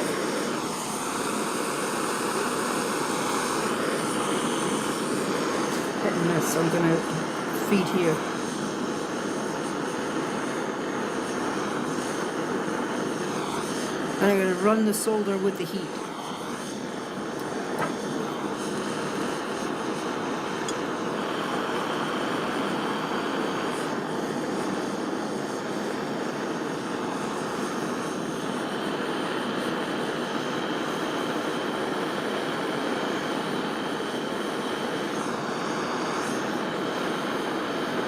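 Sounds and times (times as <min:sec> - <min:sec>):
gas torch roaring flame: 0:00.0 - 0:38.0.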